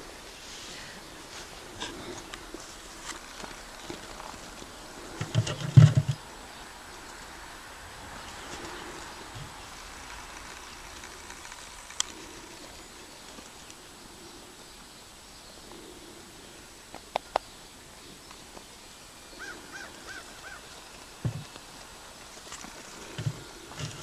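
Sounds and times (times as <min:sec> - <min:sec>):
bird calling: 0:00.7 - 0:24.0.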